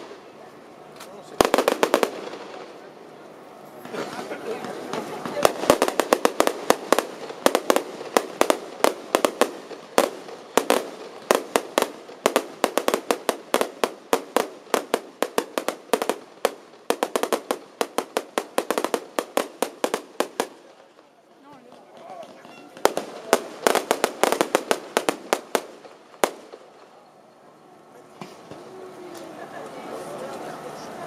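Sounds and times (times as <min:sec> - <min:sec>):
fireworks bangs and cracks: 0:00.0 - 0:03.1, 0:03.7 - 0:27.0.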